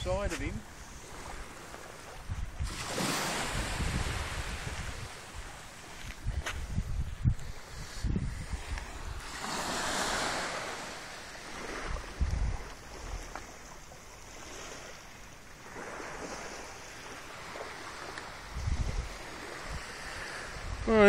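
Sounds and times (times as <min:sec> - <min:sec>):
small waves breaking on shore: 0:00.0 - 0:21.0.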